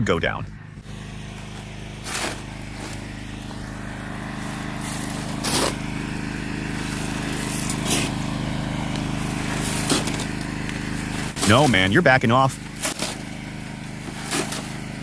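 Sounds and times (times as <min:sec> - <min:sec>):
backhoe engine running: 0:00.0 - 0:15.0.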